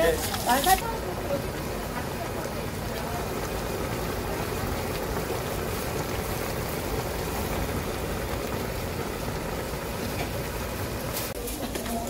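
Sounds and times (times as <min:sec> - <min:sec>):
thick sauce bubbling: 0:00.0 - 0:12.0.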